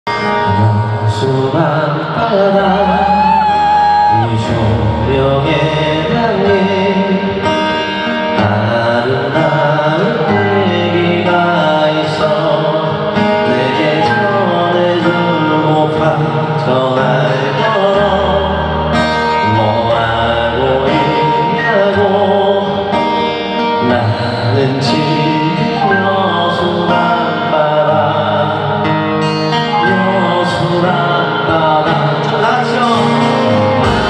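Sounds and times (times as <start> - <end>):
live band music over sound system: 0.1 - 34.0.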